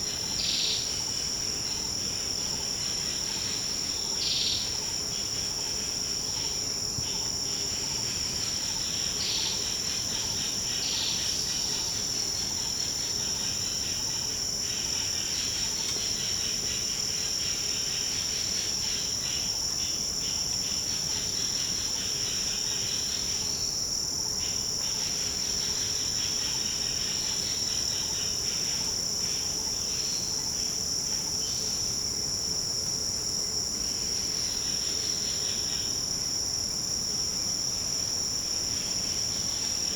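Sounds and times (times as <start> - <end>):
high-pitched insect trilling: 0.0 - 39.9
lower pulsing insect calls: 0.0 - 39.9.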